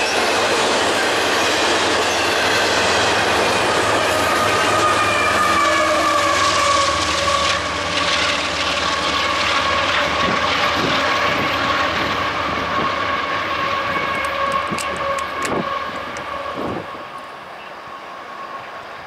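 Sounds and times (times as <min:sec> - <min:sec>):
rail clicks: 0:00.0 - 0:17.8
diesel locomotive running: 0:00.0 - 0:19.0.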